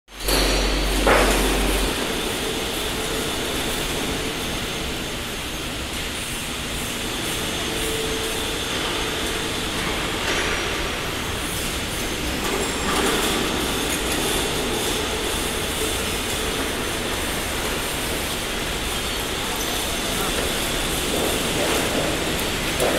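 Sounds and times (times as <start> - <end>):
roll forming machine running: 0.1 - 22.9.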